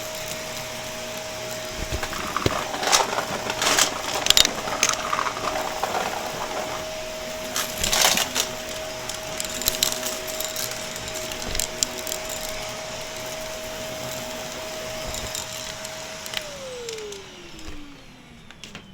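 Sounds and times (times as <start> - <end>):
vacuum cleaner motor whine: 0.0 - 18.9
debris crackling in vacuum: 0.1 - 18.0.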